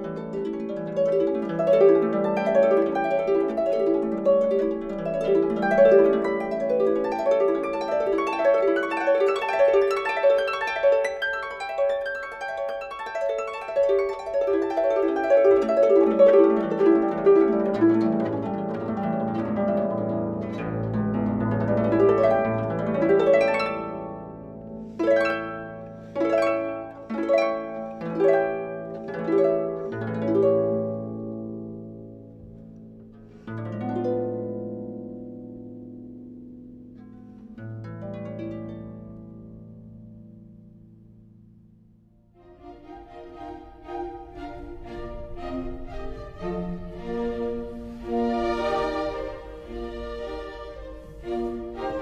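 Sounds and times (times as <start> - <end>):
harp arpeggios and chords: 0.0 - 52.0.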